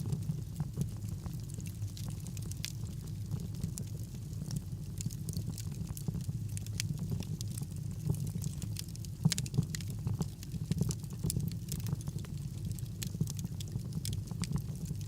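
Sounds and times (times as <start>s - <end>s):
fire crackling and snapping: 0.0s - 15.0s
fire flames rumbling: 0.0s - 15.0s.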